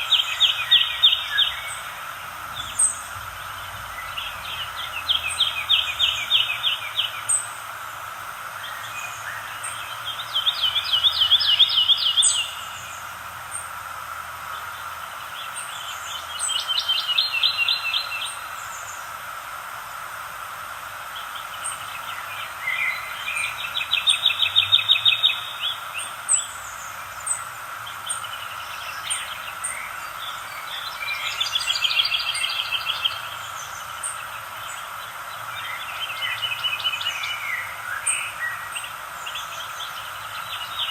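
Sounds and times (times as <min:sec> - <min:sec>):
songbird trilling: 0:00.0 - 0:07.7, 0:08.6 - 0:13.7, 0:14.5 - 0:19.0, 0:21.2 - 0:40.9
steady background hiss: 0:00.0 - 0:40.9.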